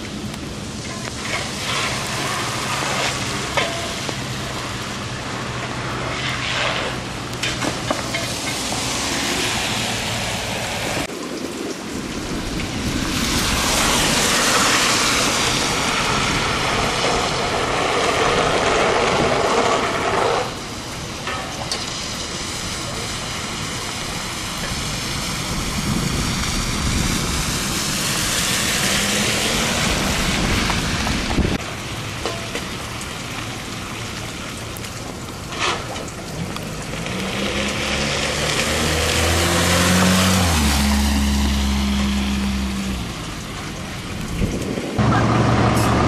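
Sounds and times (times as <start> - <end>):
hiss of slush and falling snow: 0.0 - 45.0
tyres hissing on slushy road: 0.0 - 46.0.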